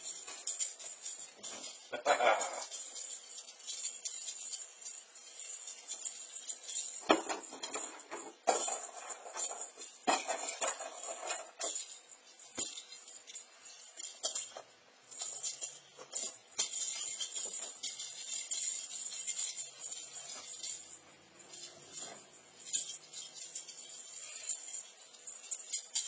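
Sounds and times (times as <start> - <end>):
cat toy bell jingling: 0.0 - 26.0.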